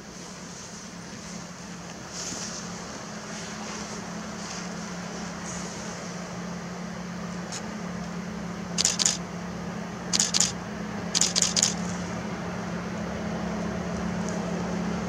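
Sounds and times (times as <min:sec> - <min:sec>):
distant locomotive engine drone: 0:00.0 - 0:15.0.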